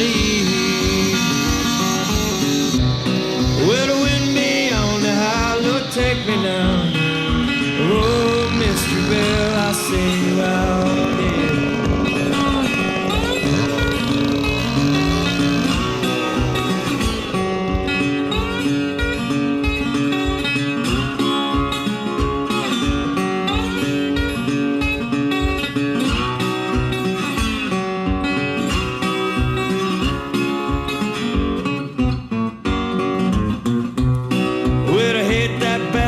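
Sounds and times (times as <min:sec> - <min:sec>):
acoustic guitar: 0:00.0 - 0:36.0
instrumental country music: 0:00.0 - 0:36.0.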